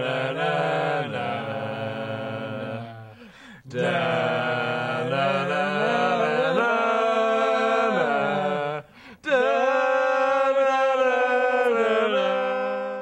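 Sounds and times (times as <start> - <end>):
unaccompanied voices singing chords: 0.0 - 13.0.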